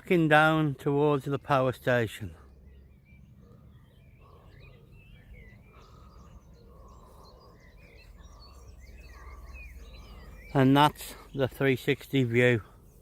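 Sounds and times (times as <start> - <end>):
songbirds chirping and warbling: 0.0 - 13.0.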